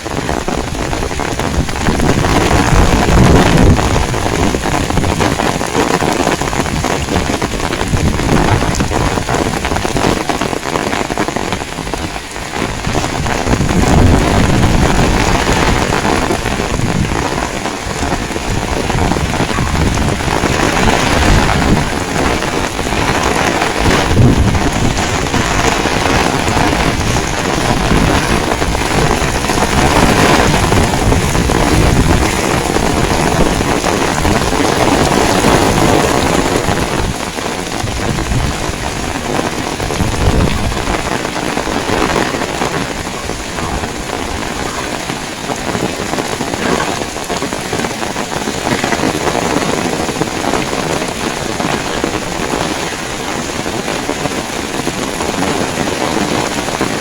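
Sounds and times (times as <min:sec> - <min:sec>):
heavy rain pouring: 0:00.0 - 0:57.0
wind rumbling: 0:00.0 - 0:57.0.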